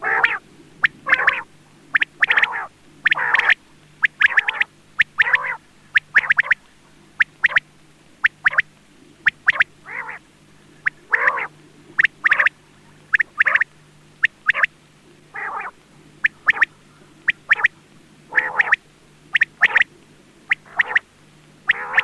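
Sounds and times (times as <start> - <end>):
quail calling: 0.0 - 22.0.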